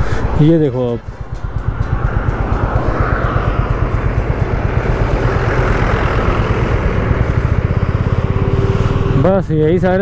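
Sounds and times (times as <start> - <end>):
motorcycle engine running: 0.0 - 10.0
wind and road noise: 0.0 - 10.0.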